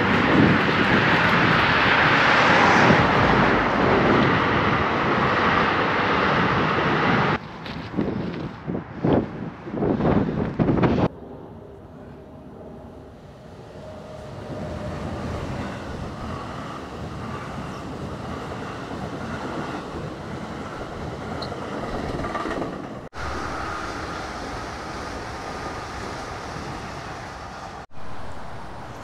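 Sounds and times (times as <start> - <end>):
train wheels rumbling on rail: 0.0 - 11.1, 13.1 - 29.0.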